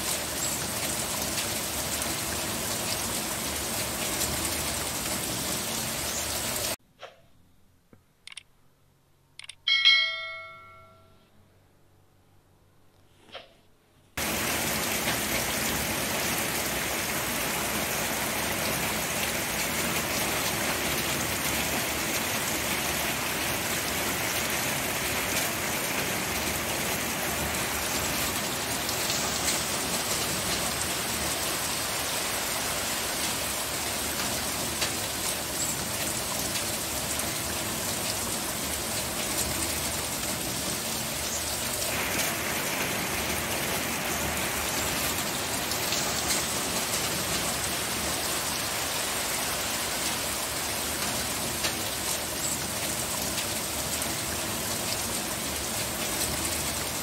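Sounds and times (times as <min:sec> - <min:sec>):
rain falling steadily: 0:00.0 - 0:06.8, 0:14.2 - 0:57.0.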